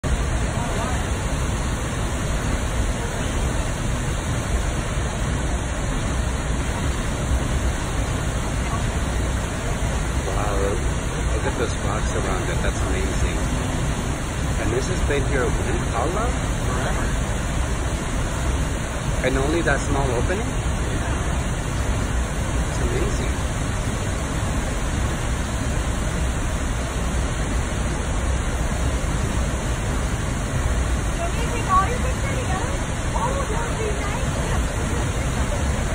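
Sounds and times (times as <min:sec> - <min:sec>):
deep rumble of water: 0:00.0 - 0:35.9
waterfall rushing: 0:00.0 - 0:35.9.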